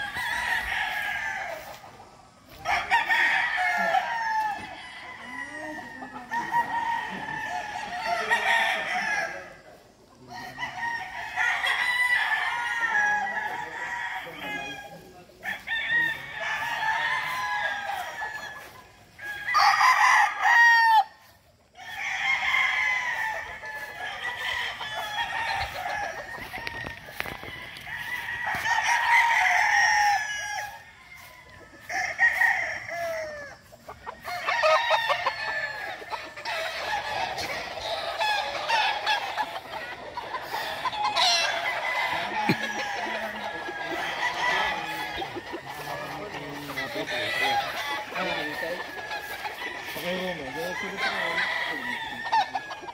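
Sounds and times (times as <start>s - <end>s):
chickens clucking: 0.0s - 52.9s
roosters crowing: 0.0s - 52.9s.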